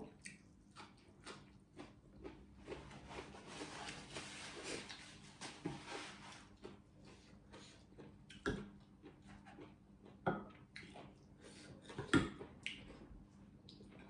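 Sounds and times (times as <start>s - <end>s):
person chewing greens: 0.0s - 14.0s.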